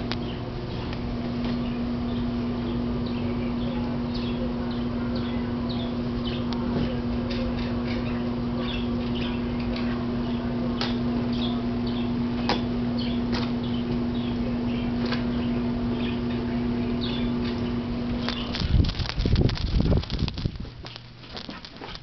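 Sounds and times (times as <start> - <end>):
rumble of movement: 0.0 - 22.0
steady electrical hum: 0.0 - 22.0.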